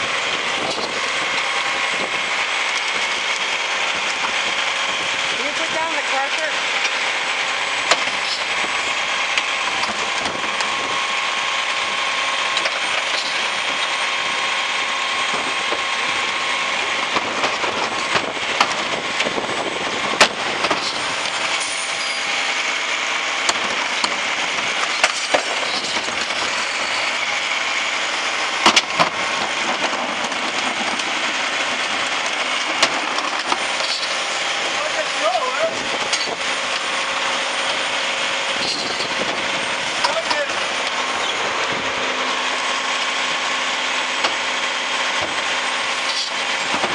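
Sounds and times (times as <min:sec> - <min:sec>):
garbage truck running: 0:00.0 - 0:46.9.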